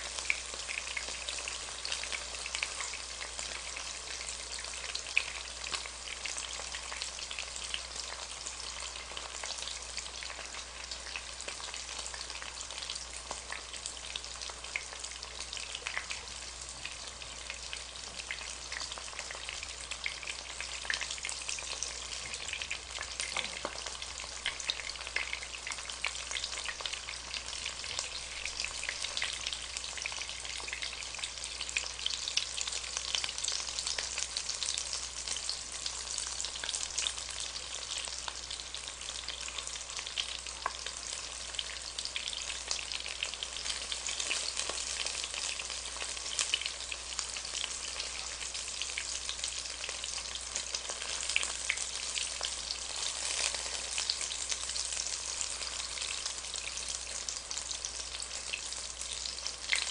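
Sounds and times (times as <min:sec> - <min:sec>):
mushrooms frying in hot oil: 0:00.0 - 0:59.9.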